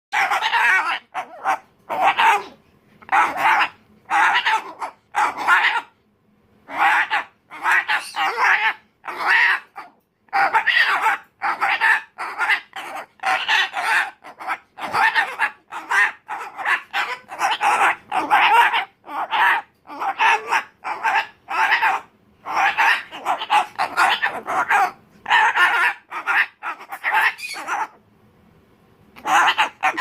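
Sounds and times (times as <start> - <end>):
cockatoo screaming: 0.1 - 6.0, 6.6 - 28.0, 29.2 - 30.0.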